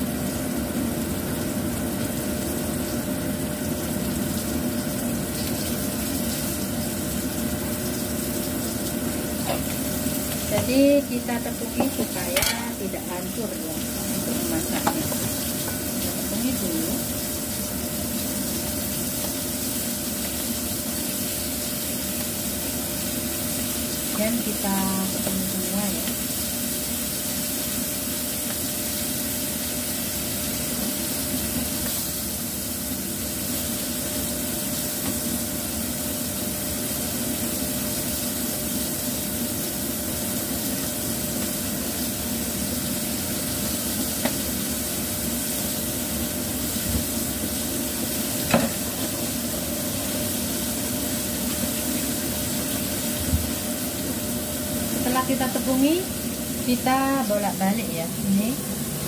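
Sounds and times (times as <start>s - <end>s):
mussels sizzling in oil: 0.0s - 59.0s.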